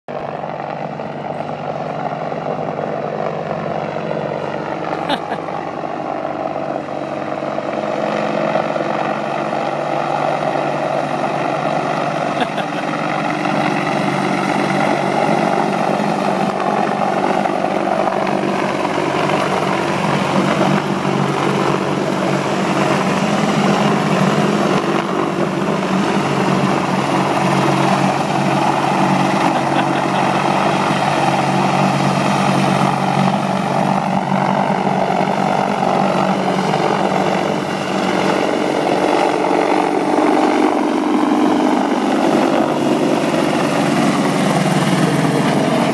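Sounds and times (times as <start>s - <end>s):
helicopter flying past: 0.1s - 45.9s.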